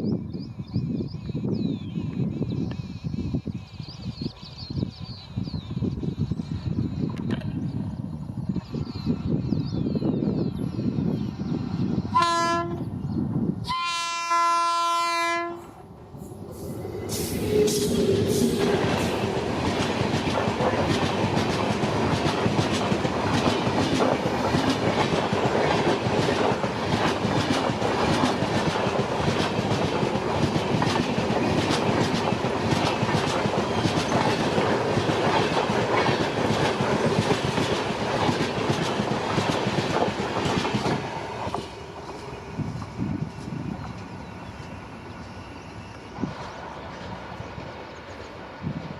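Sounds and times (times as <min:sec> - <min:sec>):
passenger train passing: 0:00.0 - 0:48.9.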